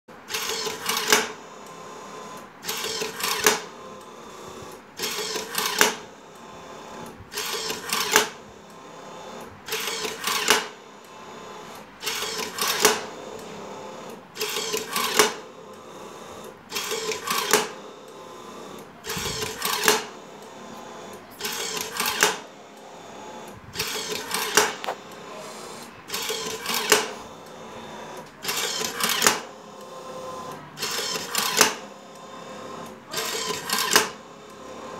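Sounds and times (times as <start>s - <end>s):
machine whirring and clattering: 0.2s - 34.9s
motor hum: 0.3s - 34.9s.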